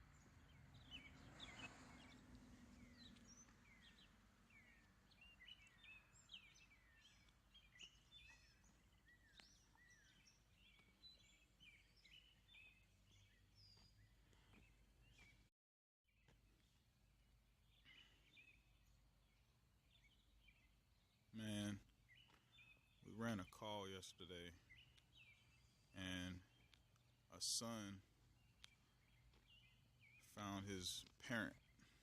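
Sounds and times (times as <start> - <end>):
songbirds chirping and singing: 0.0 - 15.5, 16.2 - 32.0.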